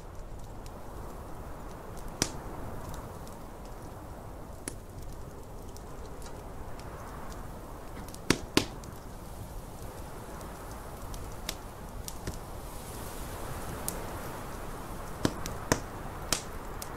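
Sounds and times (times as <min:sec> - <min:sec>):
sharp fire pops: 0:00.0 - 0:16.9
wood fire crackling: 0:00.0 - 0:16.9
snowstorm wind rushing: 0:00.2 - 0:16.9.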